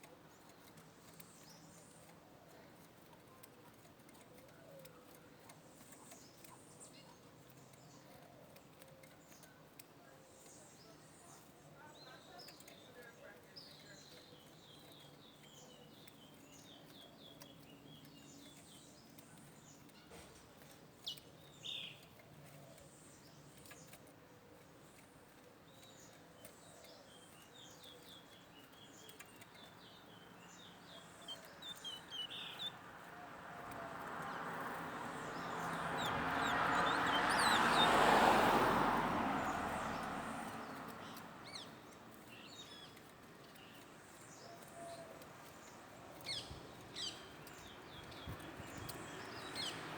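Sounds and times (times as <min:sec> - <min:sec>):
small songbirds chirping: 0:00.0 - 0:49.9.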